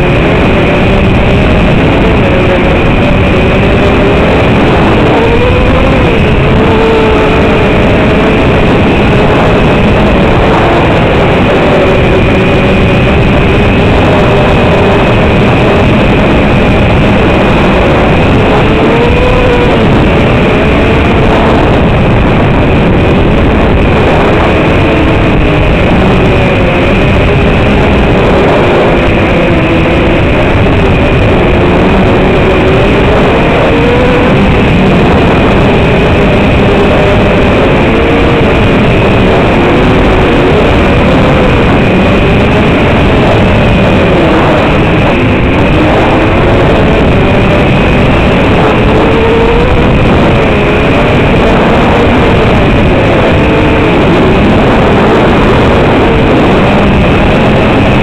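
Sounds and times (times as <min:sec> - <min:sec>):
constant high tone: 0:00.0 - 0:55.2
quadcopter motors whining: 0:00.0 - 0:57.8.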